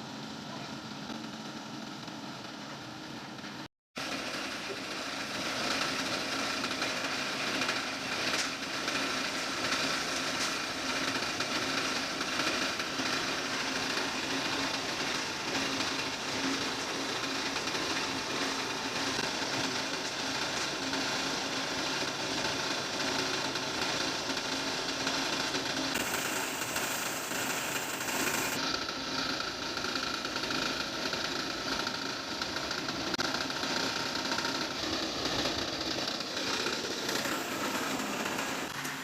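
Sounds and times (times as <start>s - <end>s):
concrete mixer running: 0.0s - 39.0s.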